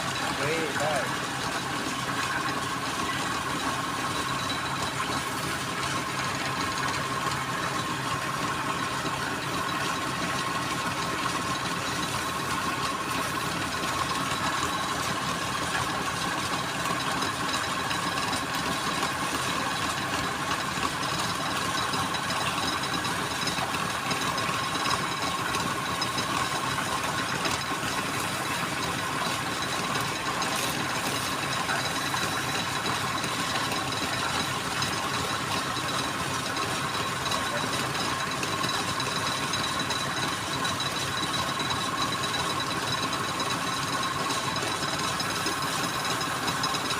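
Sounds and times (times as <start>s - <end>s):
wood lathe motor humming: 0.0s - 46.9s.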